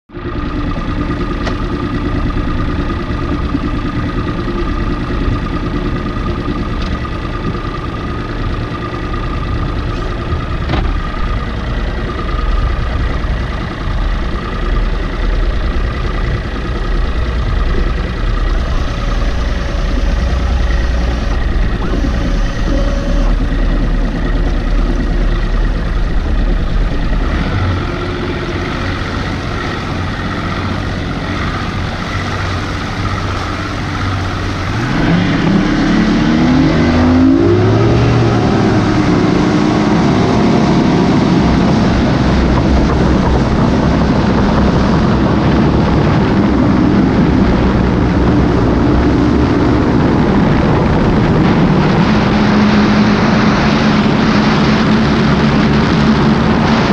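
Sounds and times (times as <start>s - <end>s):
outboard motor running: 0.1s - 56.9s
wind and water rushing: 9.8s - 56.9s.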